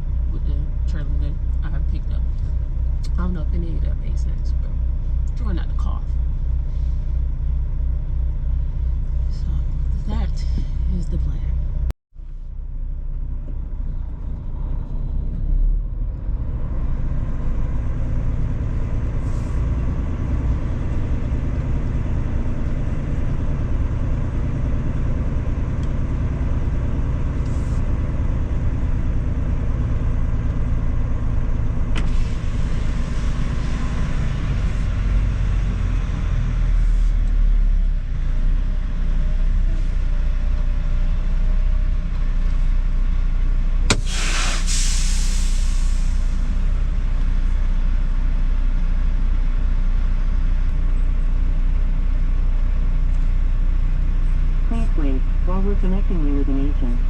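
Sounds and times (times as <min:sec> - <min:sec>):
road rumble: 0:00.0 - 0:57.0
truck diesel engine running: 0:00.0 - 0:57.0.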